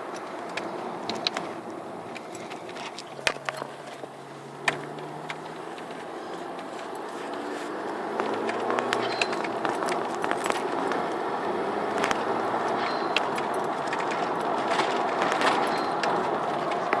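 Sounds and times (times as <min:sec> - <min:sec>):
car engine rushing: 0:00.0 - 0:17.0.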